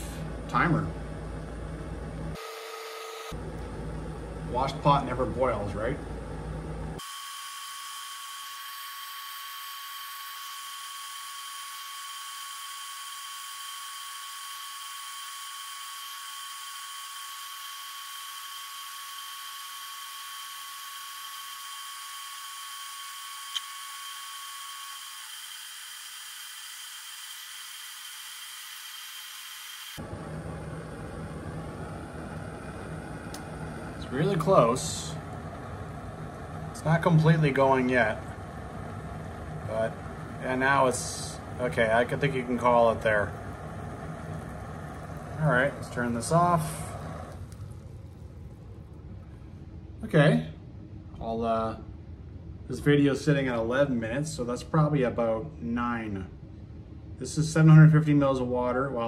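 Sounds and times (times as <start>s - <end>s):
gas stove hissing: 0.0s - 49.4s.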